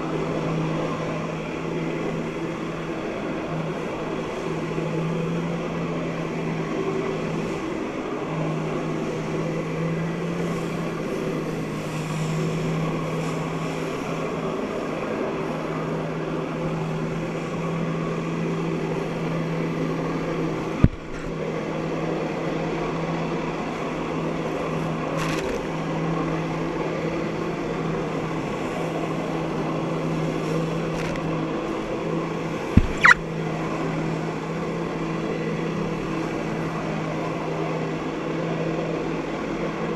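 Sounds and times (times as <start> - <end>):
jet ski engine drone: 0.0 - 39.9.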